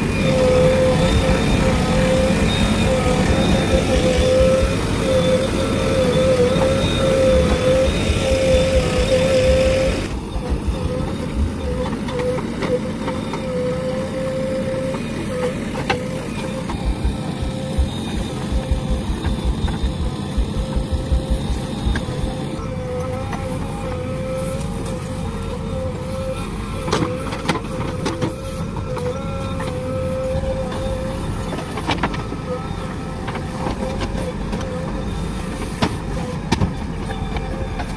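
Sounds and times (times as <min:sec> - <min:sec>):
diesel engine running: 0:00.0 - 0:37.9
steady whine: 0:00.0 - 0:37.9.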